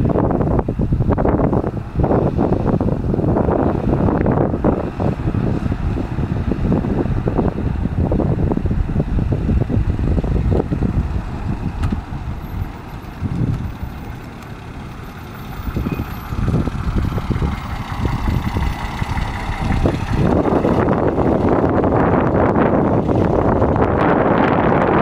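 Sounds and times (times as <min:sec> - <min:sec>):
car engine driving slowly by: 0:00.0 - 0:25.0
wind buffeting microphone: 0:00.0 - 0:25.0.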